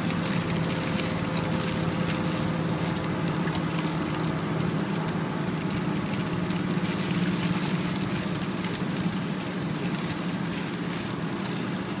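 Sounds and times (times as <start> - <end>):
car engine hum: 0.0 - 12.0
rain ticking on windscreen: 0.0 - 12.0.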